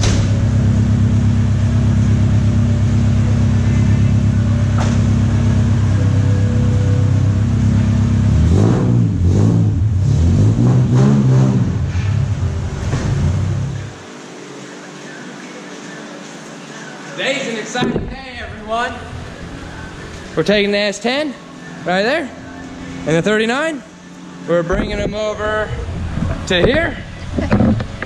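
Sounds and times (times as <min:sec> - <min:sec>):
car engine revving: 0:00.0 - 0:14.1, 0:17.8 - 0:28.0.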